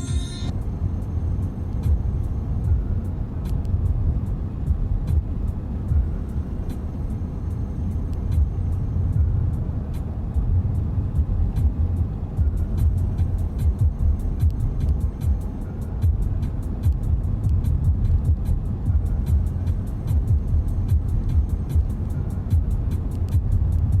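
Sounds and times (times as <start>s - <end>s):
instrumental music through car stereo: 0.0s - 24.0s
road and engine noise: 0.0s - 24.0s.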